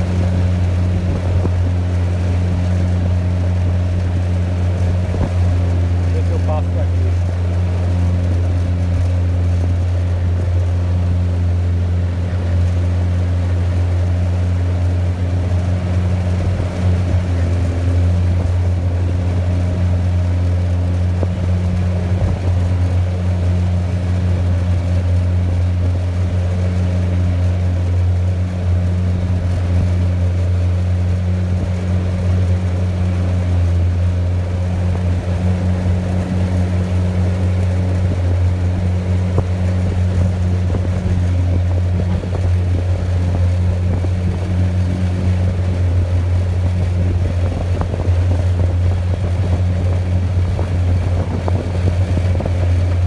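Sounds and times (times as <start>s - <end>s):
outboard motor droning: 0.0s - 53.0s
water rushing under hull: 0.0s - 53.0s.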